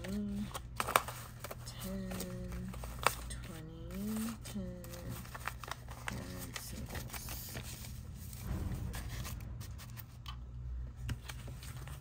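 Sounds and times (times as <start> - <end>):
paper banknotes rustling: 0.0 - 10.3, 10.9 - 12.0.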